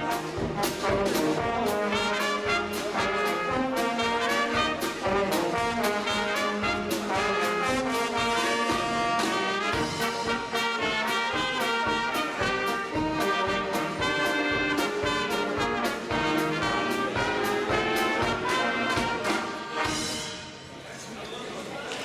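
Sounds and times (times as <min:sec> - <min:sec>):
steady drum beat: 0:00.0 - 0:20.6
brass band playing: 0:00.0 - 0:20.8.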